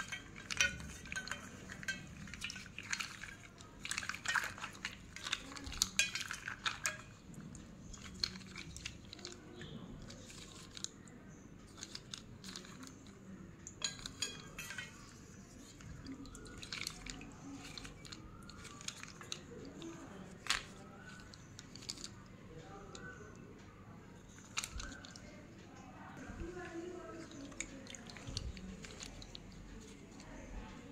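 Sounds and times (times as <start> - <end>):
slate pencils clicking together: 0.0 - 23.4, 24.3 - 25.3, 26.6 - 30.9.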